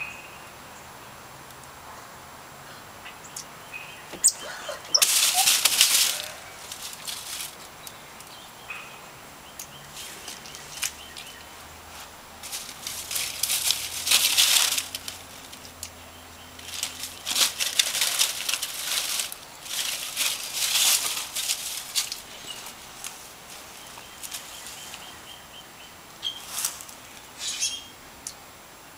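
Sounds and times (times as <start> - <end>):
dry leaves rustling: 3.2 - 28.0.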